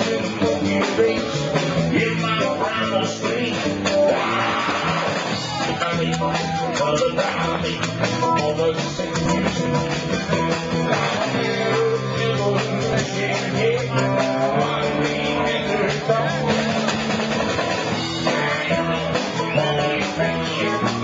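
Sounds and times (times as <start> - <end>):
drum kit: 0.0 - 21.0
electric guitar: 0.0 - 21.0.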